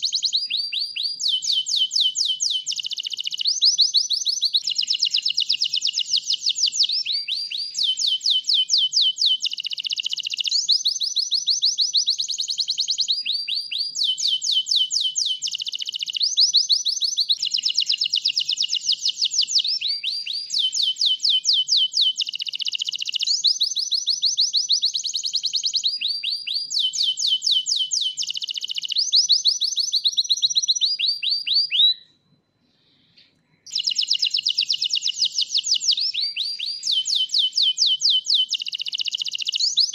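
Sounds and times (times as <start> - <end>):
canary singing trills: 0.0 - 32.0, 33.6 - 39.9.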